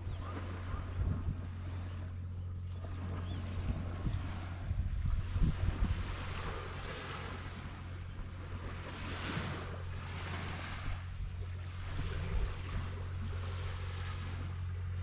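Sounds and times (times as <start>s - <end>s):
small waves on sandy beach: 0.0s - 15.0s
steady low hum: 0.0s - 15.0s.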